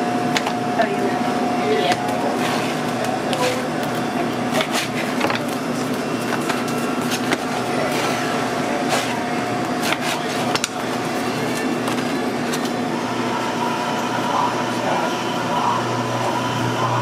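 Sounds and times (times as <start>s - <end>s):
shop chatter: 0.0s - 17.0s
steady hum: 0.0s - 17.0s.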